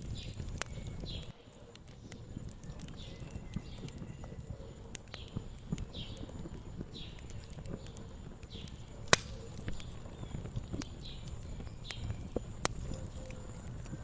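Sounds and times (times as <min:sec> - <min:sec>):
faint bird chirps: 0:00.0 - 0:14.0
wood fire crackling and popping: 0:00.0 - 0:14.0.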